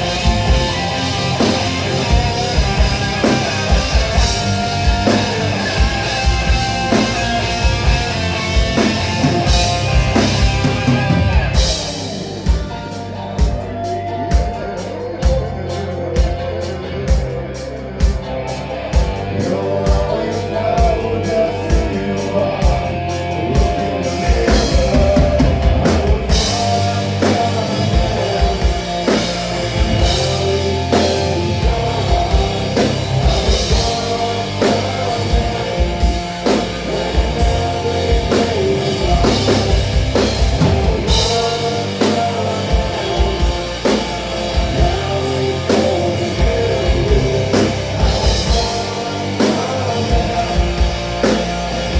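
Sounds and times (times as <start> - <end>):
rock drum kit: 0.0 - 51.9
rock guitar: 0.0 - 51.9.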